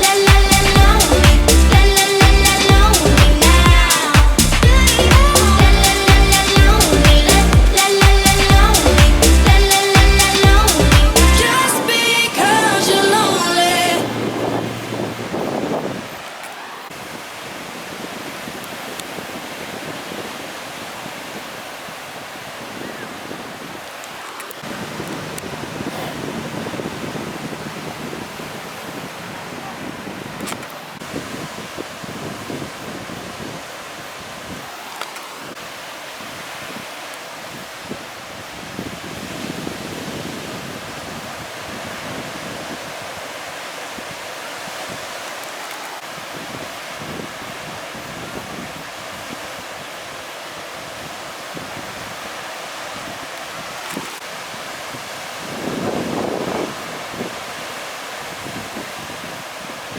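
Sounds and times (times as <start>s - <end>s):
wind noise on microphone: 0.0s - 45.3s, 45.9s - 59.9s
sea surf washing: 0.0s - 59.9s.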